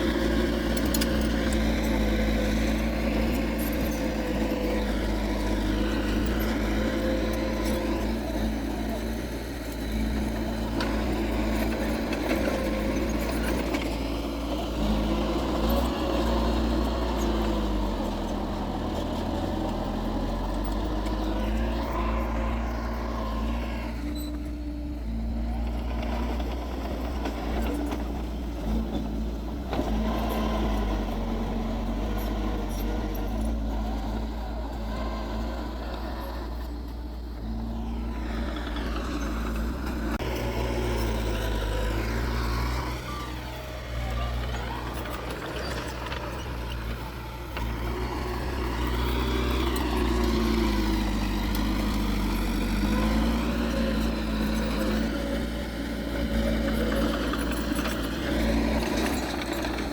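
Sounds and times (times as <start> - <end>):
heavy diesel machinery engine: 0.0 - 59.9.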